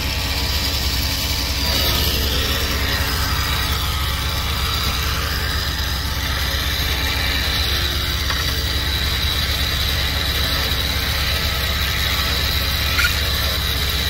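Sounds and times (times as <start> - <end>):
electric winch reeling in: 0.0 - 14.0
engine idling hum: 0.0 - 14.0.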